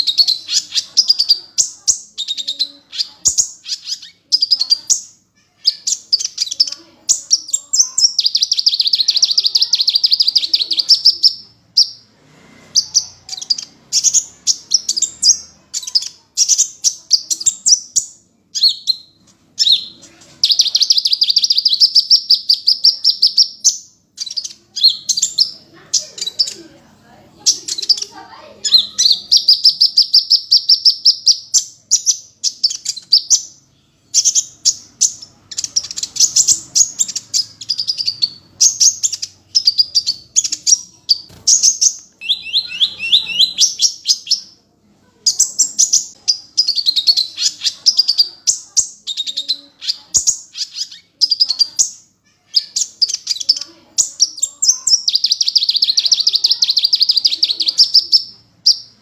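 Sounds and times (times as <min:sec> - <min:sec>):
bird singing high chips and trills: 0:00.0 - 0:12.0, 0:12.8 - 0:26.6, 0:27.4 - 0:44.6, 0:45.3 - 0:59.0.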